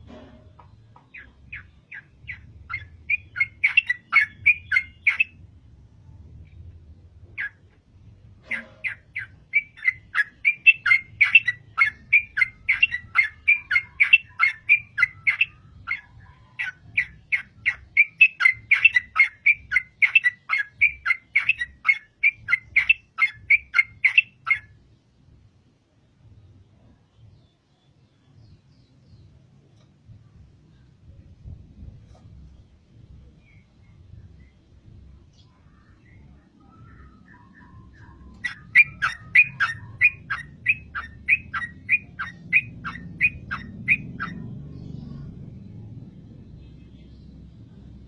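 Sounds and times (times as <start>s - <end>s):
bird chirping: 0.0s - 5.5s, 7.2s - 25.2s, 26.0s - 48.0s.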